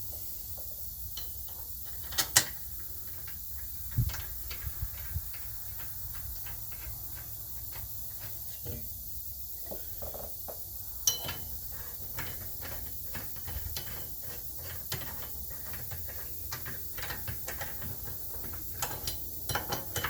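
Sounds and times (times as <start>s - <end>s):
metal tools clicking and knocking: 1.1s - 8.9s, 9.7s - 20.0s.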